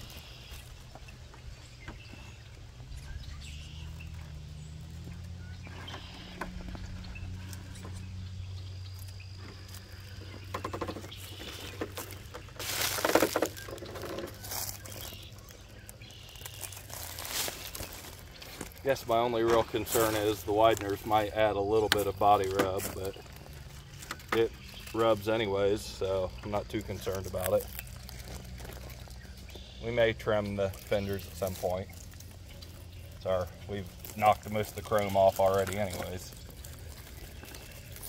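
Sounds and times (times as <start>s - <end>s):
tyres scraping on rocks: 0.0s - 8.1s, 8.8s - 38.0s.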